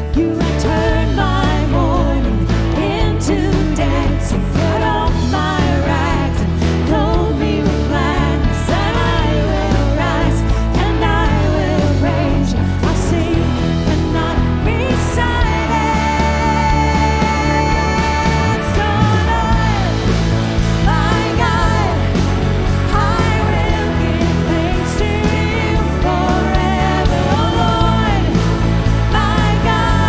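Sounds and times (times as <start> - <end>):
band with bass and drums: 0.0 - 30.0
person singing: 0.0 - 30.0.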